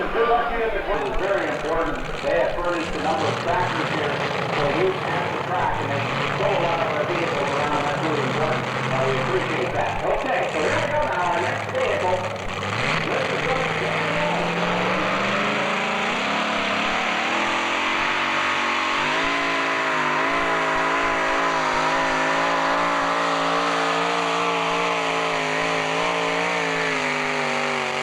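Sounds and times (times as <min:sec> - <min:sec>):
truck engine at full throttle: 0:00.0 - 0:28.0.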